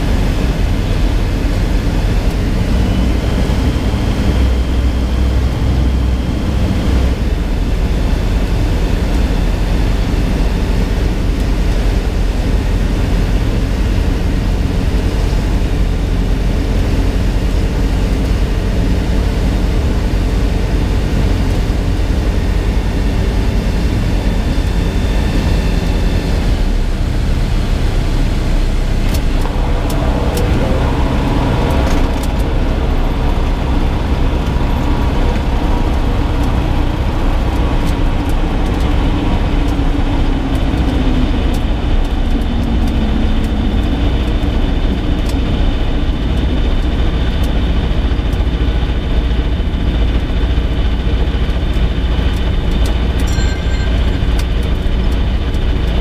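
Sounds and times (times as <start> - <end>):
propeller aircraft engine: 0.0 - 56.0
steady rush of noise: 0.0 - 56.0.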